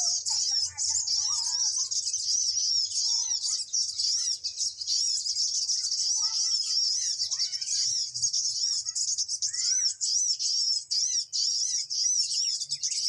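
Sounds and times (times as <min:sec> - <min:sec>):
songbirds twittering: 0:00.0 - 0:13.0.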